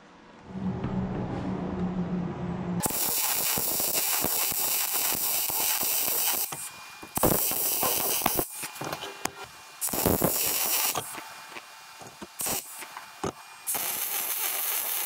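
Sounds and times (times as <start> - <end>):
welder arc crackling and hissing: 2.8 - 15.0.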